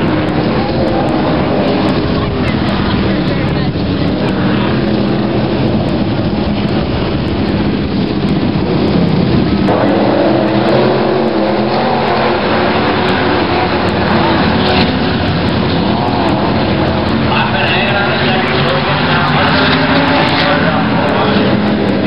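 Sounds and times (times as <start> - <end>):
racing car engines: 0.0 - 22.0.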